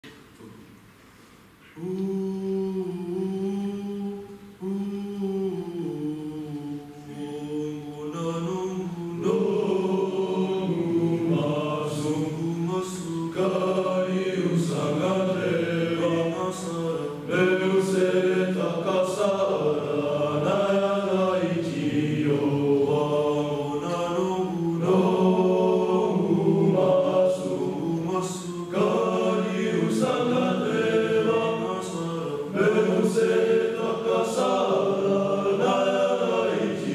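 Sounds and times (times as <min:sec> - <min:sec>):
boys' choir singing in harmony: 0:01.6 - 0:36.9.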